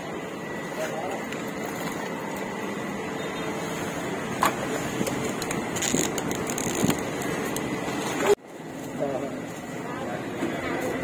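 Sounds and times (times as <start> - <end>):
traffic din: 0.0 - 11.0.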